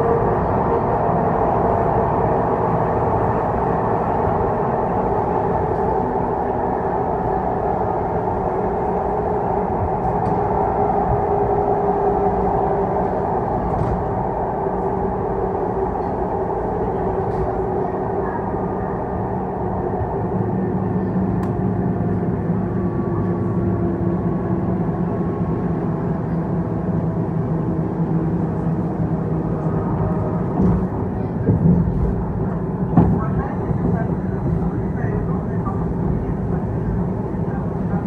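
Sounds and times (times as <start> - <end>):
electric train humming whine: 0.0 - 38.0
train wheels rumbling on rail: 0.0 - 38.0.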